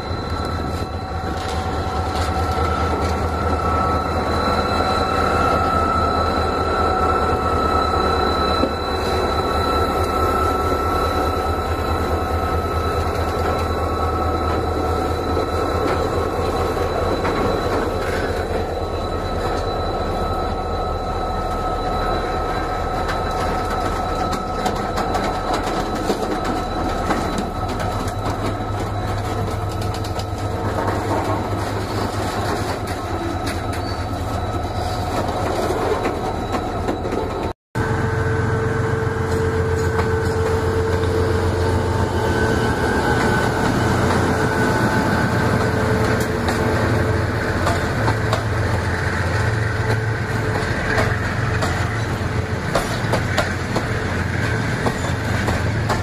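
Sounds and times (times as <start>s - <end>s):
train wheels rumbling on rails: 0.0s - 56.0s
wheel squeal: 0.0s - 56.0s.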